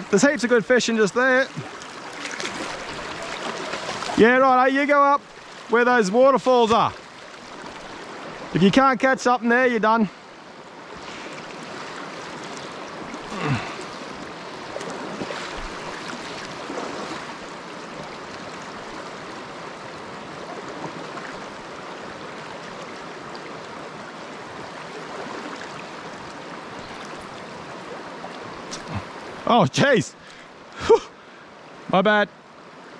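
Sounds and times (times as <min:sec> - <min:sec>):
stream running over rocks: 0:00.0 - 0:32.9.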